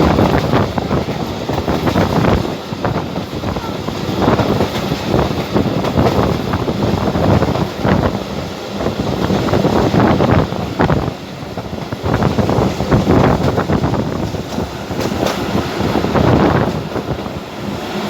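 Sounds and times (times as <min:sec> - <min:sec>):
passenger train rumbling: 0:00.0 - 0:18.0
wind buffeting microphone: 0:00.0 - 0:18.0.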